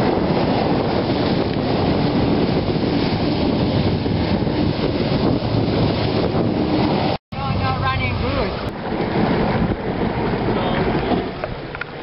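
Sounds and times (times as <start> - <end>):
jet ski engine running: 0.0 - 12.0
water spray rushing: 0.0 - 12.0.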